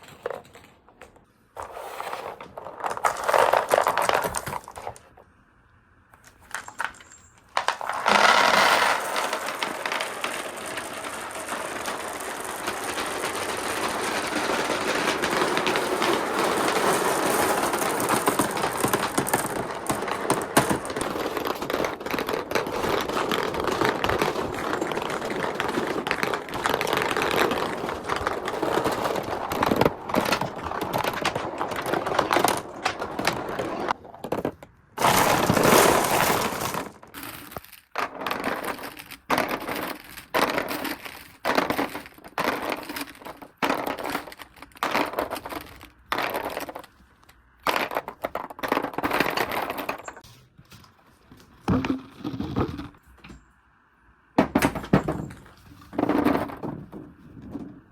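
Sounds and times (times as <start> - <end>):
balls rattling through marble run: 0.0 - 5.3, 6.2 - 50.2, 54.4 - 57.9.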